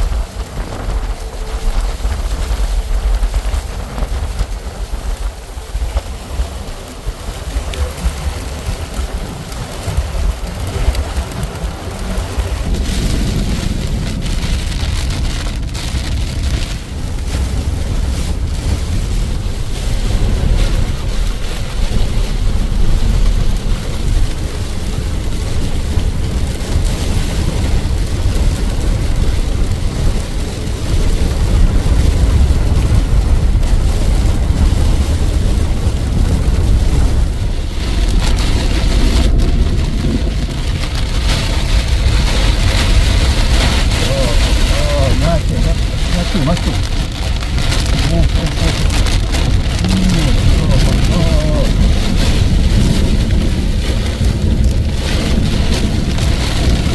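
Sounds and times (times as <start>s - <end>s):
heavy rainstorm rumbling: 0.0s - 56.9s
wind buffeting microphone: 0.0s - 56.9s.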